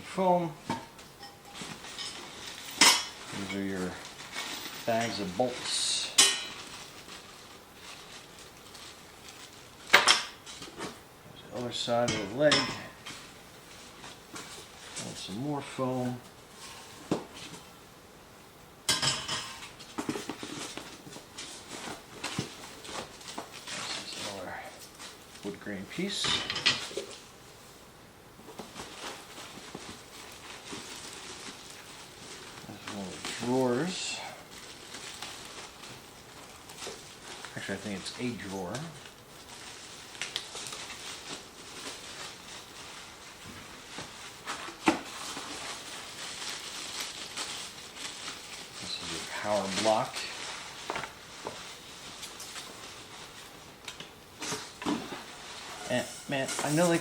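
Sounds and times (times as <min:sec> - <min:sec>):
packing foam scraping rustle: 0:01.5 - 0:17.8, 0:19.6 - 0:26.2, 0:28.5 - 0:57.0.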